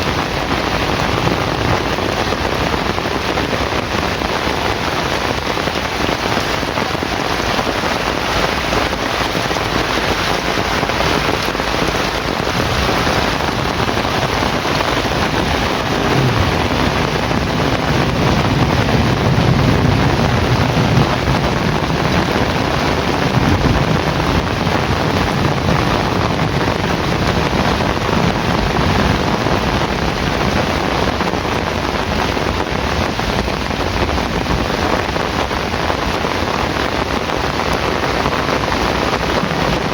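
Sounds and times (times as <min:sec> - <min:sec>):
heavy rain falling: 0:00.0 - 0:39.9
low rumble of thunder: 0:00.0 - 0:39.9.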